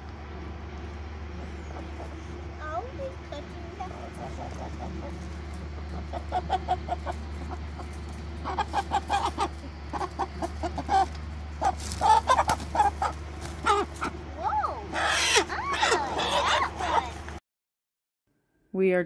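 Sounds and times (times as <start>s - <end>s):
chickens clucking: 0.0s - 17.4s.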